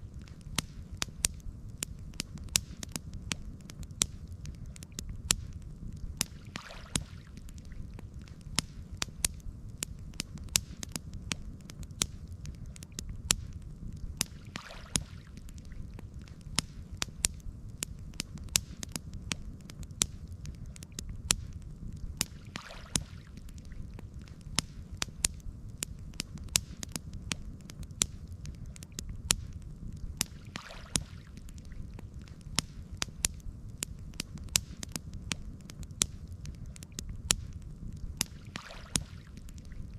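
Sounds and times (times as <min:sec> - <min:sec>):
campfire popping and snapping: 0:00.0 - 0:39.9
low fire rumble: 0:00.0 - 0:39.9.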